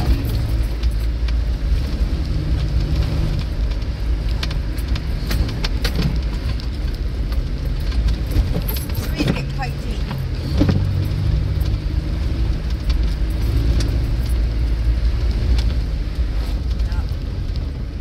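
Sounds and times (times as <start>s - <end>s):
body and suspension rattles: 0.0s - 18.0s
engine and drivetrain rumble: 0.0s - 18.0s.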